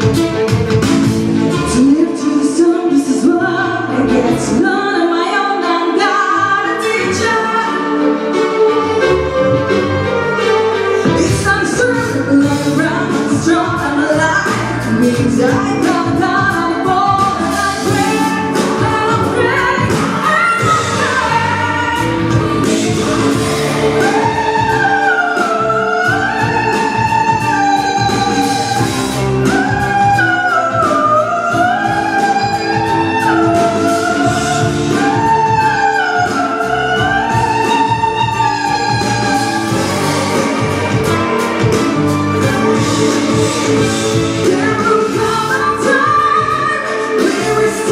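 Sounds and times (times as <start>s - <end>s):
instrumental accompaniment with beat: 0.0s - 47.9s
woman singing with vibrato: 1.5s - 9.7s, 11.0s - 47.9s.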